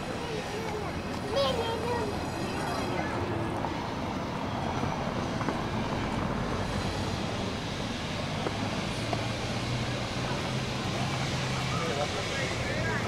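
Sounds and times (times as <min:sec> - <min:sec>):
city street noise: 0:00.0 - 0:13.0
vehicle engine humming: 0:00.0 - 0:13.0.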